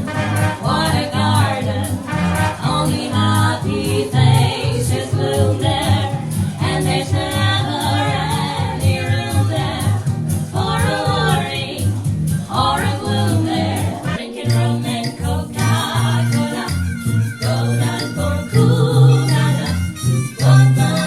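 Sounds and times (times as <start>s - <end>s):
big band backing track: 0.0s - 21.0s
female vocal trio singing: 0.0s - 21.0s.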